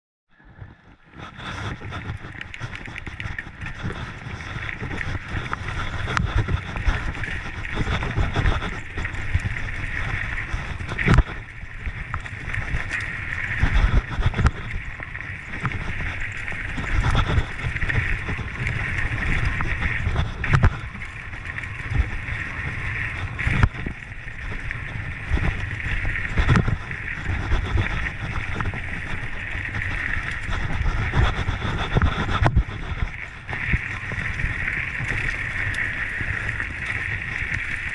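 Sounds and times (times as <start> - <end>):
wind rushing over microphone: 0.4 - 37.9
bike rattling and knocking: 1.3 - 37.9.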